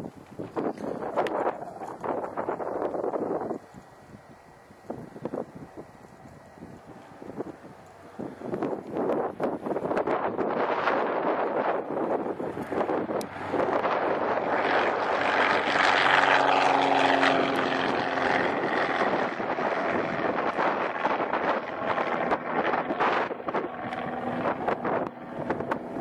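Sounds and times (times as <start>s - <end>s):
propeller plane taking off: 0.0s - 26.0s
wind buffeting microphone: 0.0s - 26.0s.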